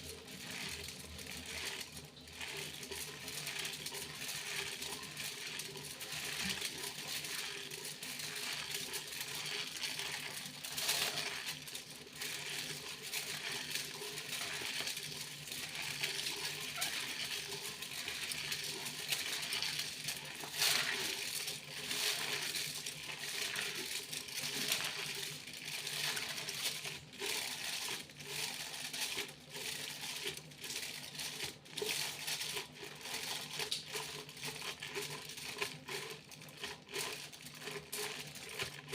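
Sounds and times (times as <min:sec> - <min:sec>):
foil crinkling by hand: 0:00.0 - 0:38.9.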